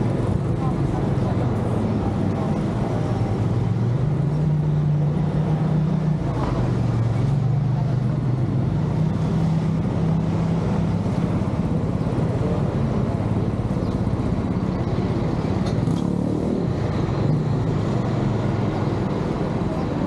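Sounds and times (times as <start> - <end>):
steady rush of noise: 0.0 - 20.0.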